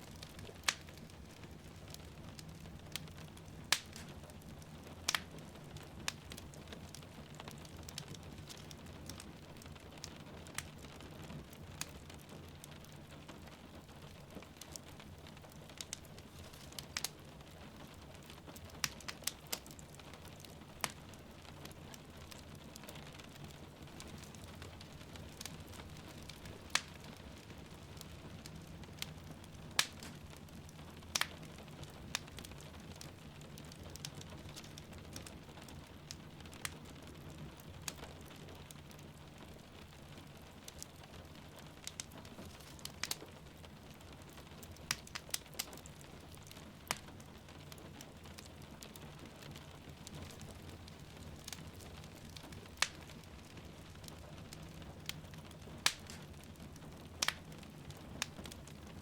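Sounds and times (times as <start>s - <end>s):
hiss of rain: 0.0s - 59.0s
wood fire crackling and popping: 0.0s - 59.0s.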